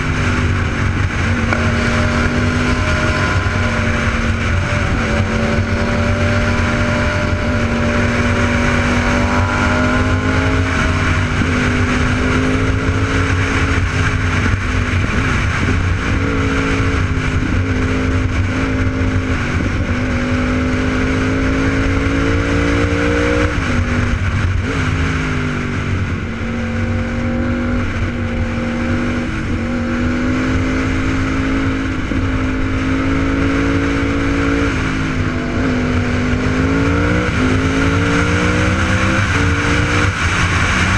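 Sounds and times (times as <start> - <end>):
motorcycle engine running: 0.0 - 40.9
steady rush of noise: 0.0 - 40.9.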